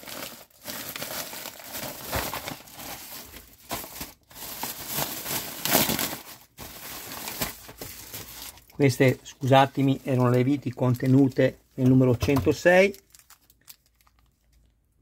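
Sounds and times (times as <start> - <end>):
plastic bag crinkling and tearing: 0.0 - 14.8.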